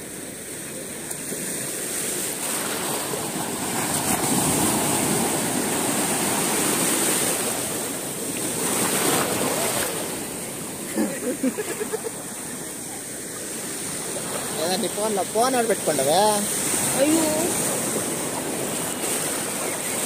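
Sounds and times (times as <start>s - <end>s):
sea waves breaking: 0.0s - 20.0s.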